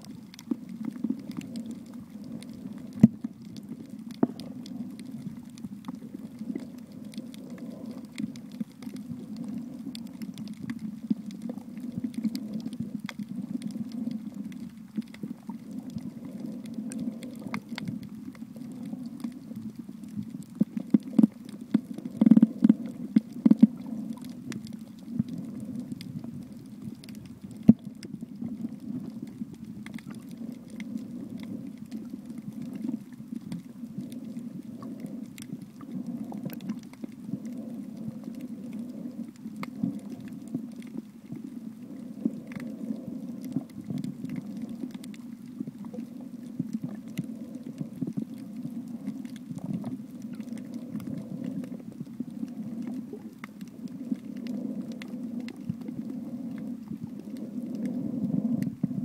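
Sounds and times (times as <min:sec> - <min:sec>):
muffled underwater rumble: 0:00.0 - 0:59.0
sharp clicks and crackles: 0:00.0 - 0:59.0.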